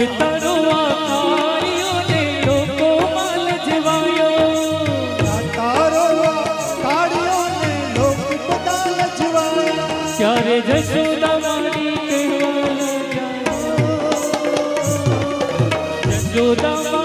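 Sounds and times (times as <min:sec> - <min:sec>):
man singing: 0:00.0 - 0:17.0
tabla beat: 0:00.0 - 0:17.0.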